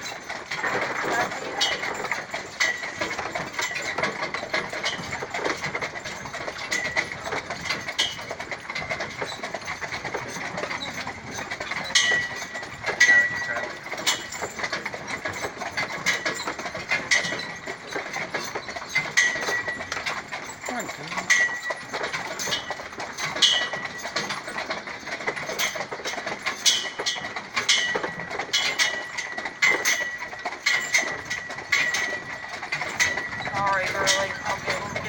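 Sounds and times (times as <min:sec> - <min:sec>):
carriage and harness rattling: 0:00.0 - 0:35.0
hooves clip-clopping: 0:00.0 - 0:35.0.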